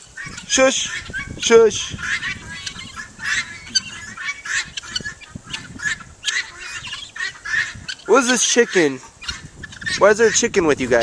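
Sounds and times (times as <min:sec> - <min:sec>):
fowl squawking and honking: 0:00.0 - 0:11.0.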